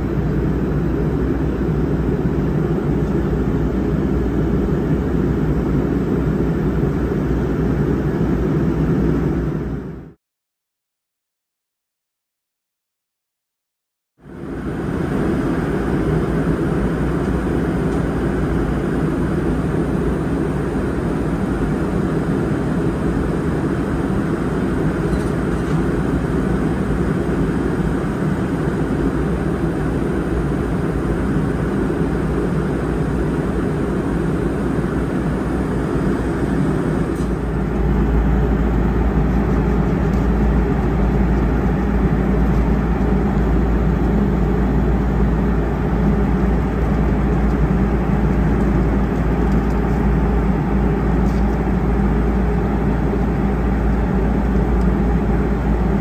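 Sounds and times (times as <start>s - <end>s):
airliner cabin engine noise: 0.0s - 10.2s, 14.2s - 56.0s.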